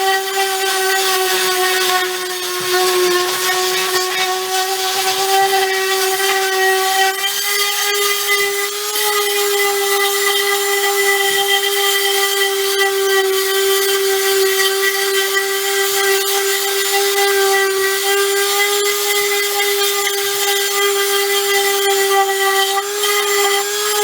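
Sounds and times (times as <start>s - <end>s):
electric sander on wood: 0.0s - 24.0s.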